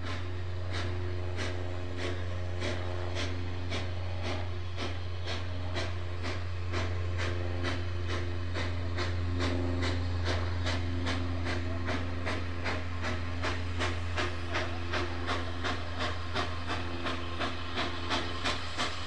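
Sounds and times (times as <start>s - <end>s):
steady low hum: 0.0s - 19.0s
steam engine exhaust chuffing: 0.0s - 19.0s.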